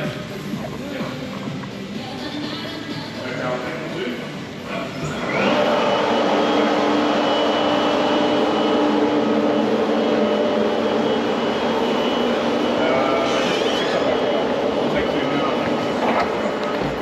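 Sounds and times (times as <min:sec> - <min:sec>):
loud steady machine noise: 0:00.0 - 0:17.0.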